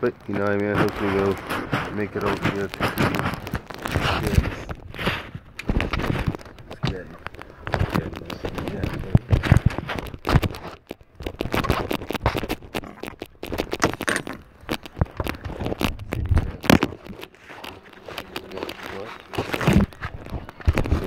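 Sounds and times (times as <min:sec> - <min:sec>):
scraping and rubbing on microphone: 0:00.0 - 0:21.0
sharp clicks and crackles: 0:00.0 - 0:21.0.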